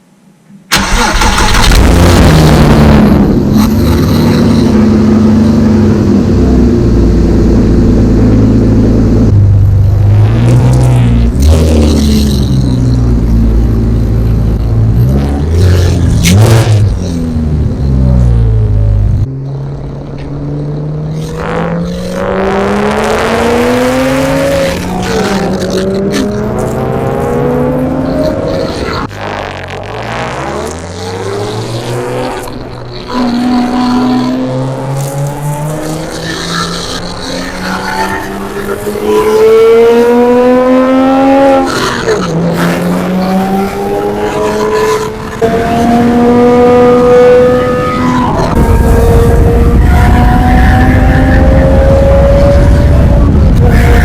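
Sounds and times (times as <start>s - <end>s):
car engine accelerating: 0.7s - 54.0s.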